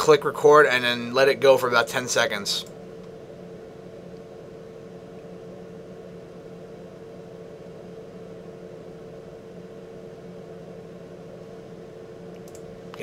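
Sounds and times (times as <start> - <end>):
computer case hum: 0.0 - 13.0.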